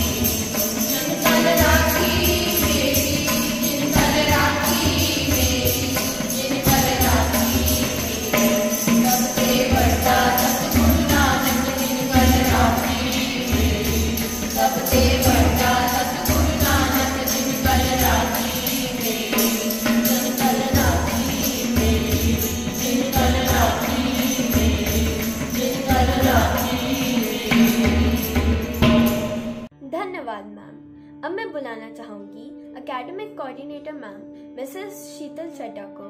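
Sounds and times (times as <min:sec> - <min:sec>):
harmonium drone: 0:00.0 - 0:29.6
jingling hand percussion: 0:00.0 - 0:29.7
tabla strokes: 0:00.0 - 0:29.7
women singing together: 0:00.0 - 0:29.7.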